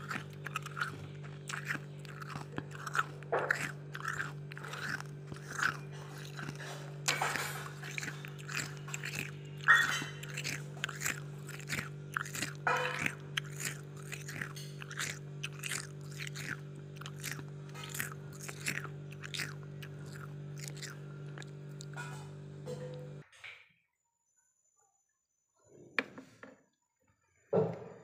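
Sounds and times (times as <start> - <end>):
freezer frost crunching: 0.0 - 23.2
steady low hum: 0.0 - 23.2.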